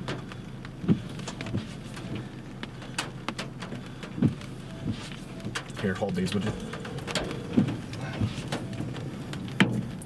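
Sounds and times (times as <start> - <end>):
engine running hum: 0.0 - 10.0
hailstones striking vehicle: 0.0 - 10.0.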